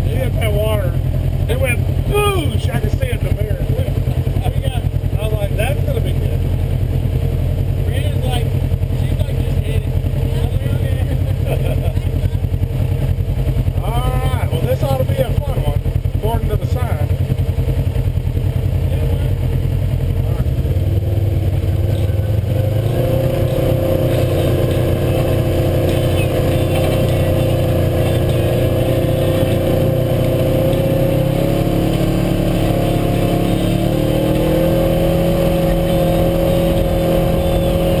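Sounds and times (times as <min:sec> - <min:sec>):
utility vehicle engine running: 0:00.0 - 0:38.0.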